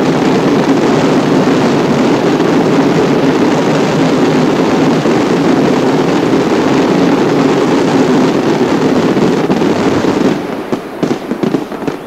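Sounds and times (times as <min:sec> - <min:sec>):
fireworks bangs: 0:00.0 - 0:12.0
fireworks barrage roar: 0:00.0 - 0:12.0.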